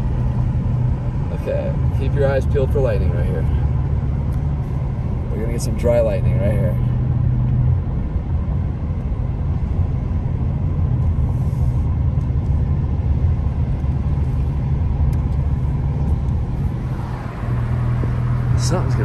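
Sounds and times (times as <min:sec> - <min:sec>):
car engine rumble: 0:00.0 - 0:19.0
tyre road noise: 0:00.0 - 0:19.0.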